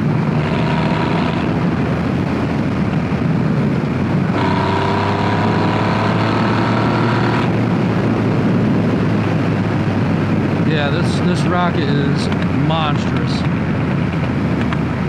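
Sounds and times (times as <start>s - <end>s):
motorcycle engine revving: 0.0s - 15.0s
wind rush: 0.0s - 15.0s.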